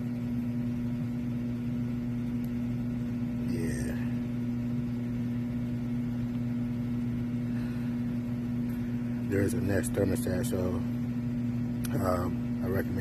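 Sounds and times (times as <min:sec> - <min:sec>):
blower motor humming: 0:00.0 - 0:13.0.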